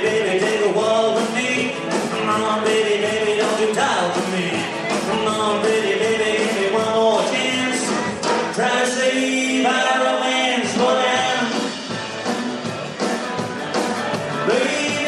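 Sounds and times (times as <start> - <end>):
rock and roll song with singing: 0.0 - 15.0.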